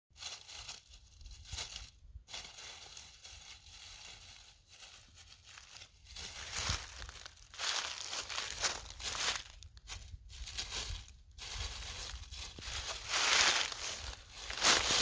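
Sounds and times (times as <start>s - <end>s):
dry leaves rustling and crackling: 0.1s - 15.0s.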